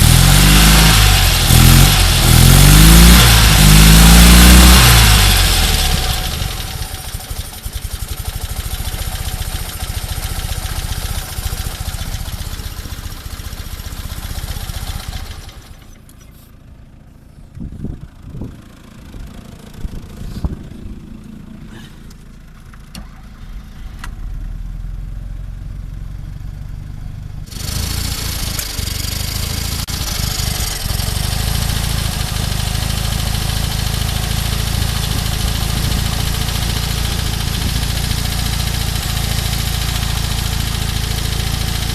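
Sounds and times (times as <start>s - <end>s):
small car engine running: 0.0s - 41.9s.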